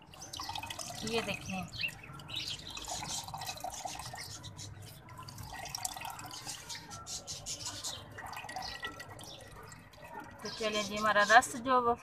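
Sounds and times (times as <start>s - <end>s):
liquid trickling into a metal pot: 0.0s - 11.2s.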